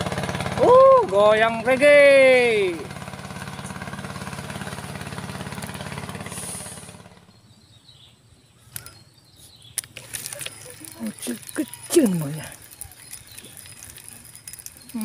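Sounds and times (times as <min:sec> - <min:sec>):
small engine chugging: 0:00.0 - 0:07.7, 0:09.8 - 0:15.0.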